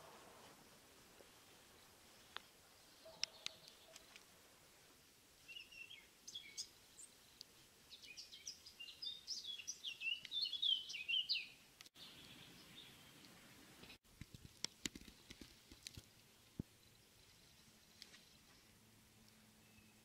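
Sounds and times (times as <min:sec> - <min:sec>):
songbird singing: 0:01.7 - 0:04.2, 0:05.4 - 0:14.0, 0:15.0 - 0:20.0.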